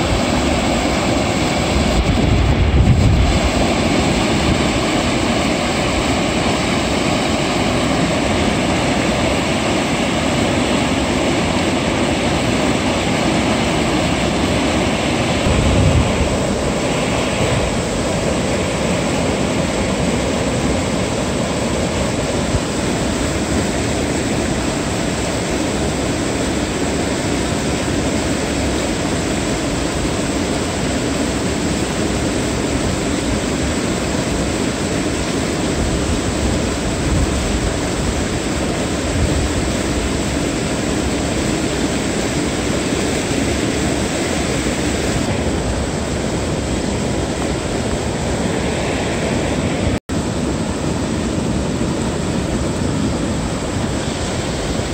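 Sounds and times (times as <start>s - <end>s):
river water rushing over rocks: 0.0s - 54.9s.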